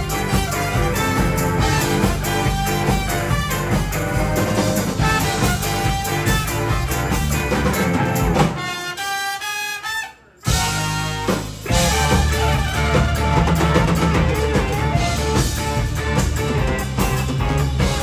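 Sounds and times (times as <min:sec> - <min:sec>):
band music with drums: 0:00.0 - 0:18.0.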